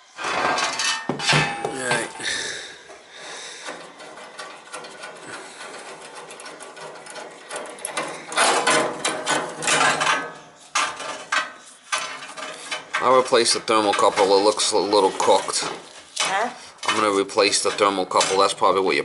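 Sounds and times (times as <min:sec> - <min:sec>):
metallic clicking and rattling: 0:03.6 - 0:19.0.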